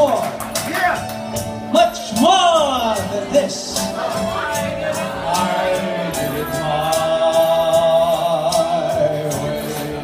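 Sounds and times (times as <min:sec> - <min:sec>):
backing track with steady beat: 0:00.0 - 0:10.0
man singing into a microphone: 0:01.7 - 0:10.0.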